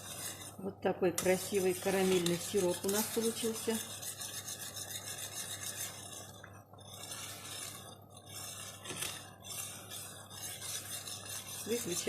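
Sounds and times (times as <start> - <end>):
boiling sugar syrup hiss: 0.0 - 12.0.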